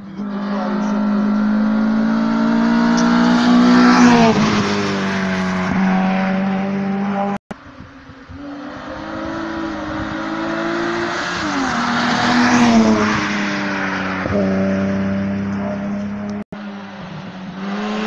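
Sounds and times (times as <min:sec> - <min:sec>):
race car engine passing by: 0:00.0 - 0:07.4, 0:08.5 - 0:18.0.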